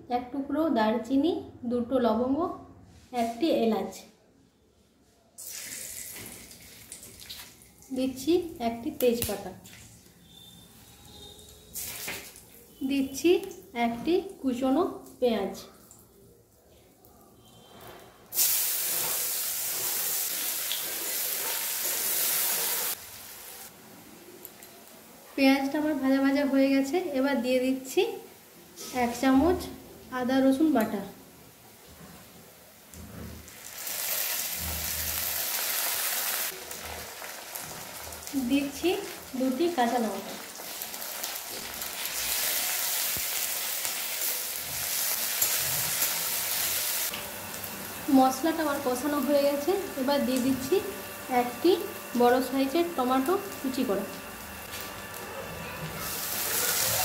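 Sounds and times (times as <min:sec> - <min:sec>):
onion sizzling in hot oil: 0:05.4 - 0:15.0, 0:17.4 - 0:57.0.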